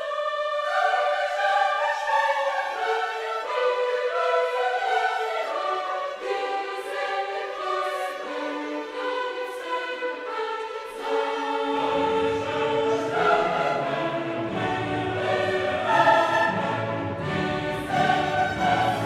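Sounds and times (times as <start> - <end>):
choir singing with orchestra: 0.0 - 19.0.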